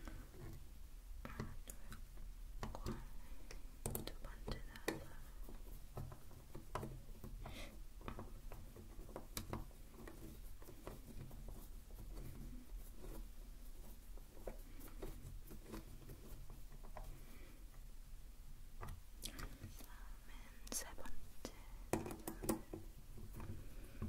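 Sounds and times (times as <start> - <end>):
hands tapping and rustling: 0.0 - 18.0, 18.6 - 20.0, 20.6 - 24.0.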